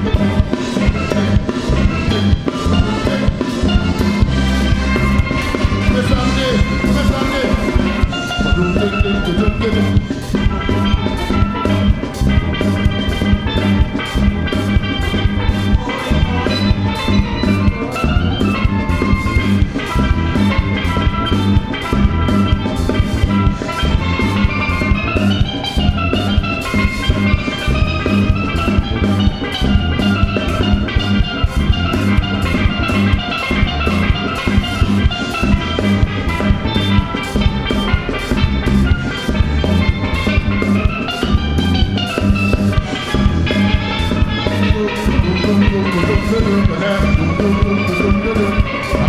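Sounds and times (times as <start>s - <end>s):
bass guitar: 0.0s - 49.0s
drum kit: 0.0s - 49.0s
steelpan melody: 0.0s - 49.0s.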